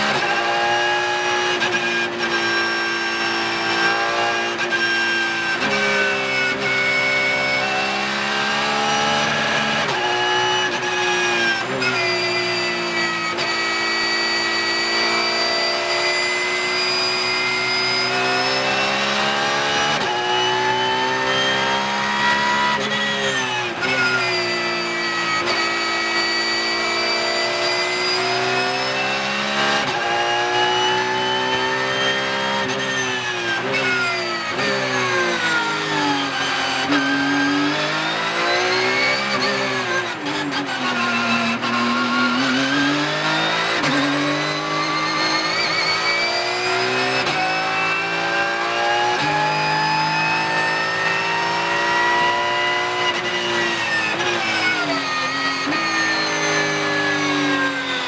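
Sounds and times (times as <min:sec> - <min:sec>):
racing car engine at full throttle: 0:00.0 - 0:58.0.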